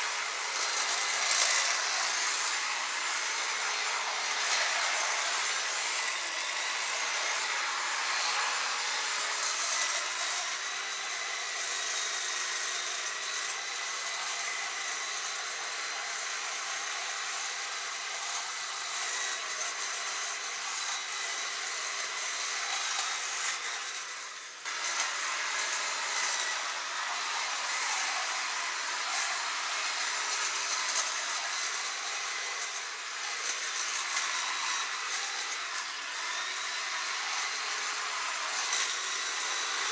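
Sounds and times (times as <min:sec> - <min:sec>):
electric hedge clippers buzzing: 0:00.0 - 0:39.9.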